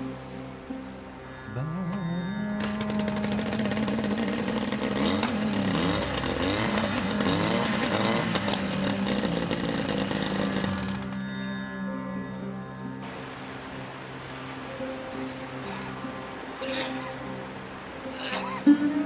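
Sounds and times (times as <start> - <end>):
outboard motor revving: 1.2 - 19.0.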